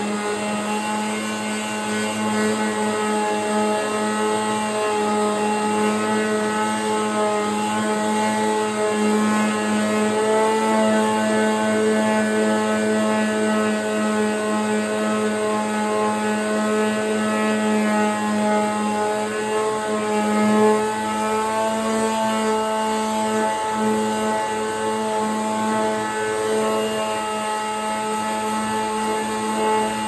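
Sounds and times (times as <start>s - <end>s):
electric power sander running: 0.0s - 30.0s.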